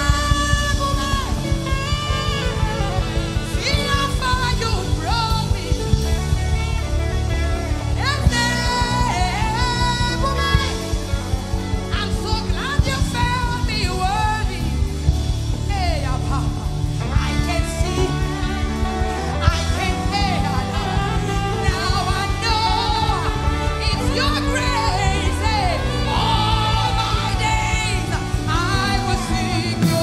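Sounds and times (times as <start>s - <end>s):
band playing: 0.0s - 30.0s
woman singing with vibrato: 0.0s - 30.0s.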